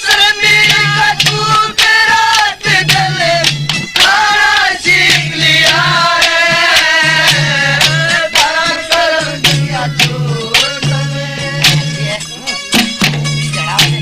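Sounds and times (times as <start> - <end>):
folk melody with wavering pitch: 0.0 - 14.0
sharp drum strikes: 0.0 - 14.0.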